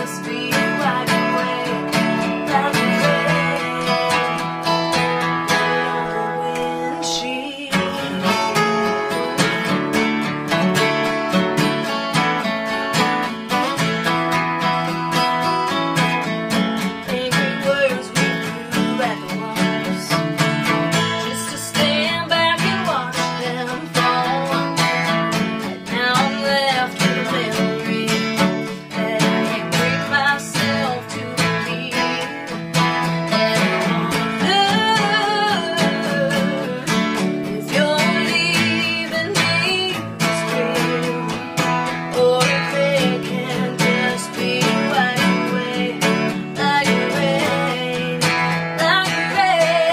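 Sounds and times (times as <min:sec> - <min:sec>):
acoustic guitars country song: 0:00.0 - 0:49.9.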